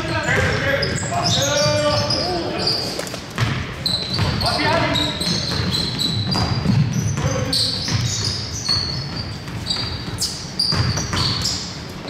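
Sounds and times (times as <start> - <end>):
basketball bouncing: 0.0 - 2.2, 3.2 - 11.8
sneakers squeaking on floor: 0.0 - 12.0.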